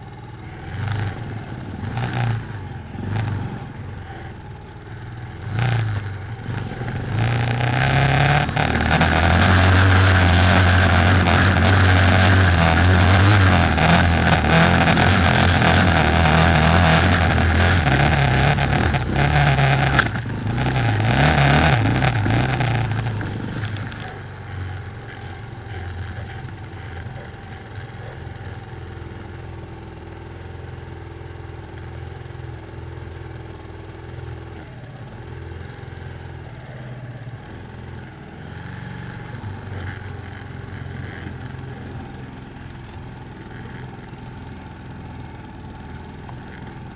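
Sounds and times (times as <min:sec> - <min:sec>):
quad bike engine running: 0:00.0 - 0:46.9.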